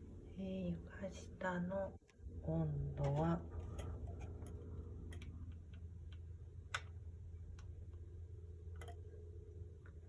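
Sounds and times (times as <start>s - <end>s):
air conditioner humming: 0.0s - 10.0s.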